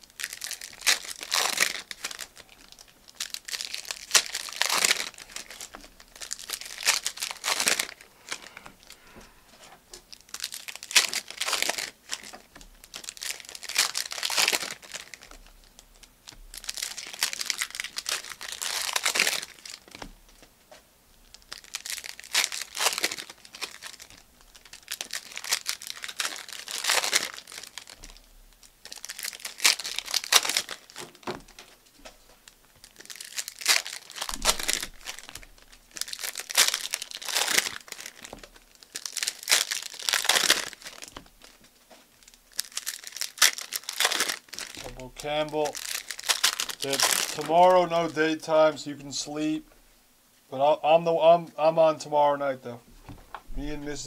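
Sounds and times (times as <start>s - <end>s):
plastic wrappers crinkling and tearing: 0.0s - 20.5s, 21.2s - 48.8s.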